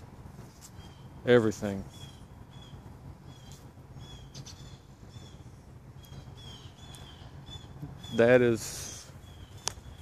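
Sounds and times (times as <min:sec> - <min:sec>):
low steady hum: 0:00.0 - 0:10.0
bird chirping: 0:00.4 - 0:10.0.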